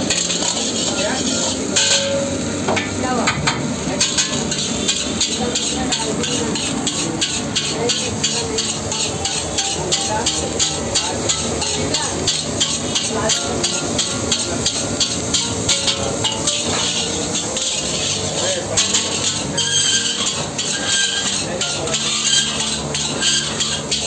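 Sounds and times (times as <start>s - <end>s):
metal ladle scraping a wok: 0.0s - 2.0s, 4.0s - 24.0s.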